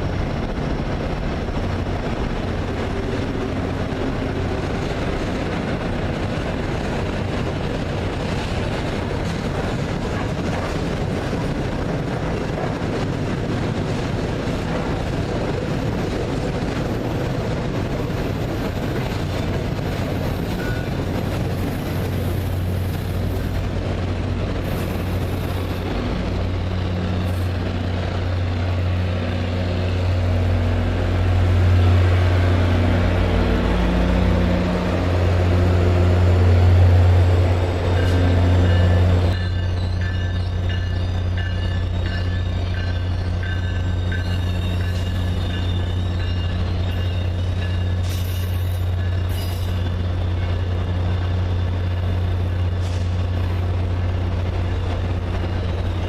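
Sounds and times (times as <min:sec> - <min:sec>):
locomotive engine hum: 0:00.0 - 0:56.0
train rumbling: 0:00.0 - 0:56.0.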